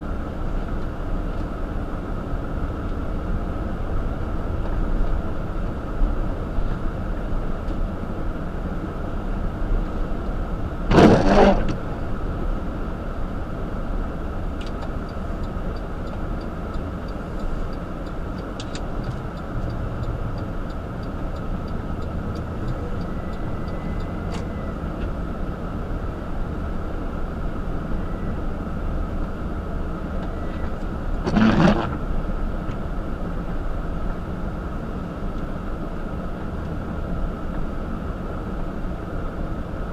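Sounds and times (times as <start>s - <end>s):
car driving on snow: 0.0s - 39.9s.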